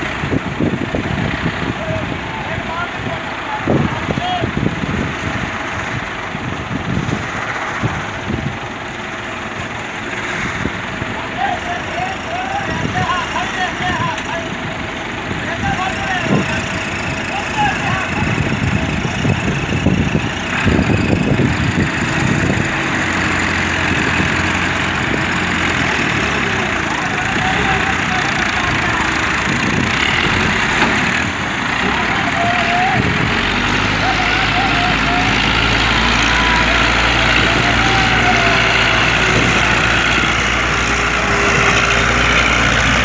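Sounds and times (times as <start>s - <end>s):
diesel engines chugging: 0.0s - 43.0s.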